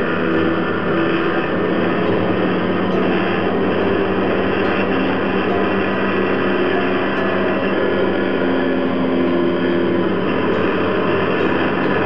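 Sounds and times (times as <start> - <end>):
drill press running: 0.0 - 12.0.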